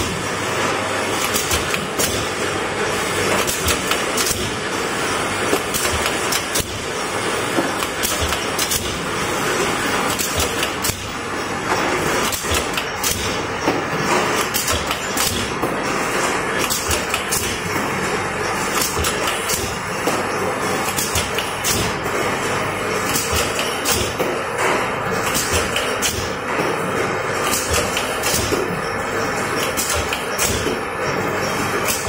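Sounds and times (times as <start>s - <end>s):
machine mechanical clatter: 0.0s - 32.0s
sharp machine clacks: 0.8s - 32.0s.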